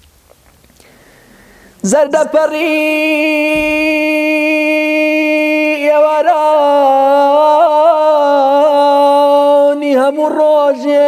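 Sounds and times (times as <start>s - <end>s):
man singing: 1.8s - 11.0s.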